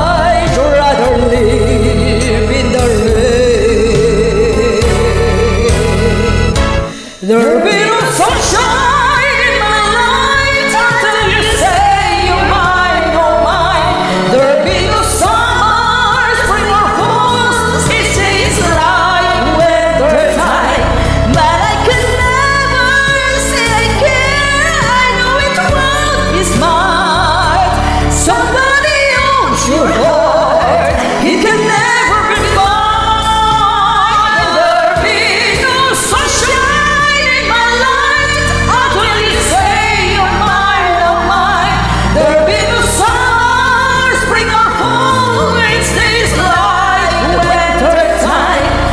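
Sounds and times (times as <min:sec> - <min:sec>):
person singing karaoke: 0:00.0 - 0:48.9.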